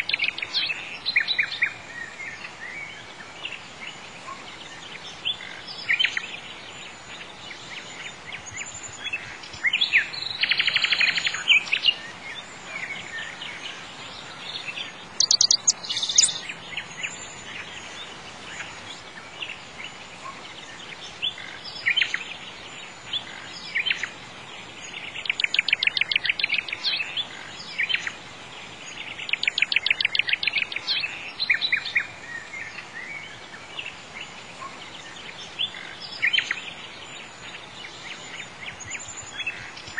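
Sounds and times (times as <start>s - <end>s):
background hiss: 0.0s - 39.9s
songbirds chirping and trilling: 0.0s - 39.9s.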